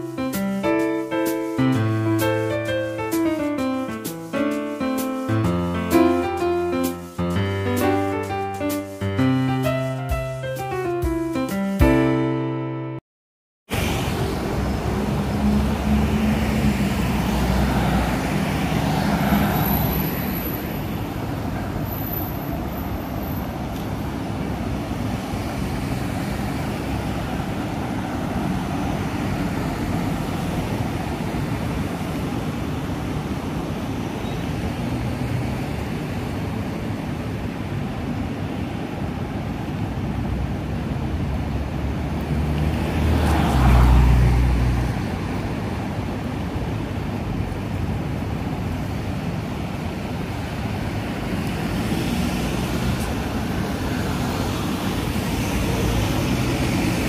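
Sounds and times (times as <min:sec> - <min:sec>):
cars passing: 0:00.0 - 0:12.2, 0:13.7 - 0:57.0.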